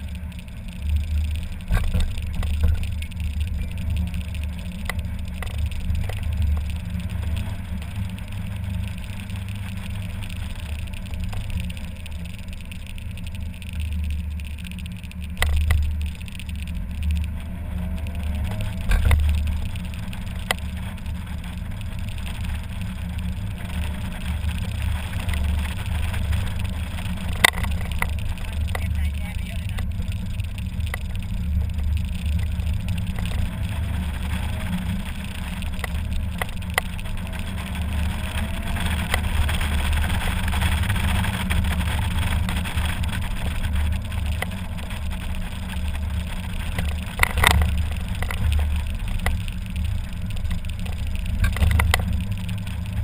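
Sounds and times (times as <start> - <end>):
car engine running: 0.0 - 53.0
wind rumble: 0.0 - 53.0.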